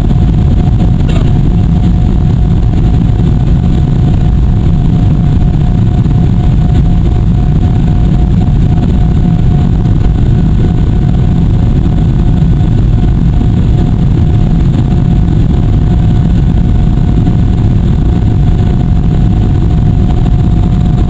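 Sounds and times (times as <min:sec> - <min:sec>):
faint steady whine: 0:00.0 - 0:21.0
jet engine roar: 0:00.0 - 0:21.0
rushing air: 0:00.0 - 0:21.0.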